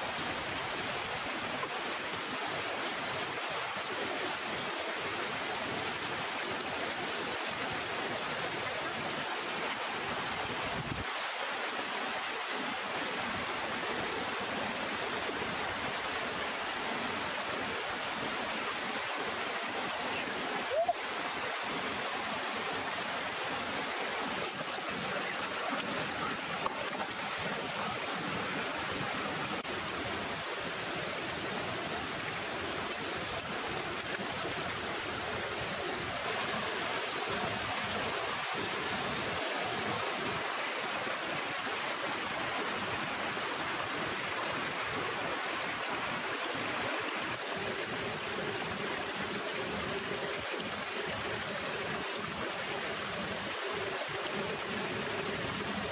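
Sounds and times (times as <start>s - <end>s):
waterfall pouring into pool: 0.0s - 55.9s.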